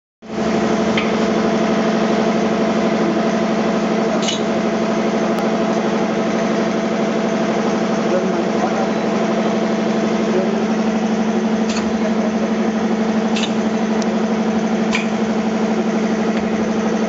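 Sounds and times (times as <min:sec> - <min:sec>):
welding machine humming: 0:00.3 - 0:17.0.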